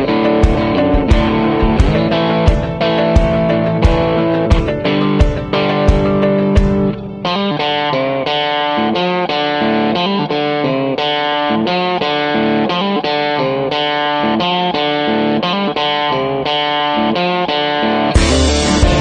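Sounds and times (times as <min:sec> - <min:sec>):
guitar plucking notes: 0:00.0 - 0:19.0.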